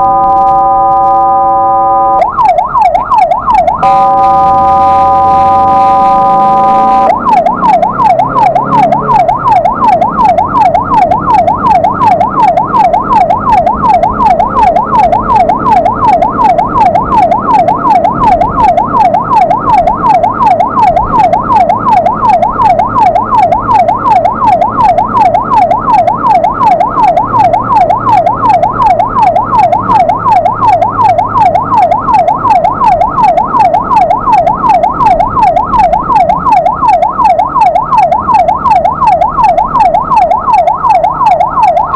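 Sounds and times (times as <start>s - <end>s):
siren in fast yelp: 0.0s - 41.9s.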